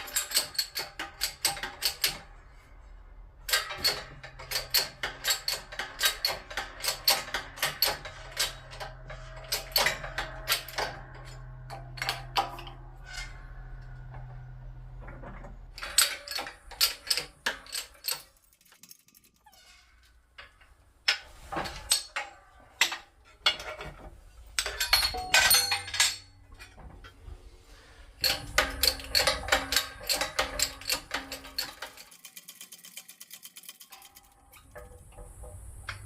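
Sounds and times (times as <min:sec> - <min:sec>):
metal tools clinking and clanking: 0:00.0 - 0:02.4, 0:03.4 - 0:19.1, 0:20.4 - 0:32.2.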